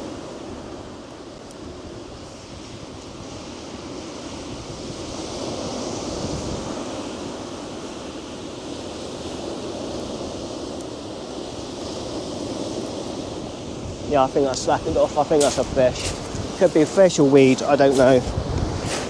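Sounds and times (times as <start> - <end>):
wind on microphone: 1.6 - 19.0
sea surf breaking: 1.7 - 19.0.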